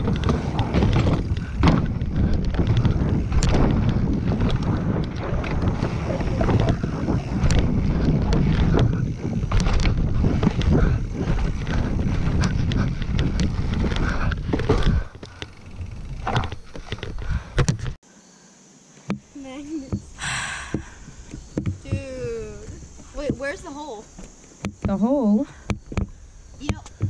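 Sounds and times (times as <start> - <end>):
tyres rumbling over dirt trail: 0.0 - 18.0, 19.4 - 27.0
wind buffeting camera: 0.0 - 18.0, 19.8 - 27.0.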